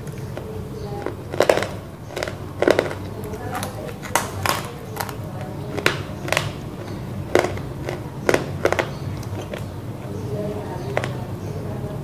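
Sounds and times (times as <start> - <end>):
chewing crunches: 0.0 - 11.4.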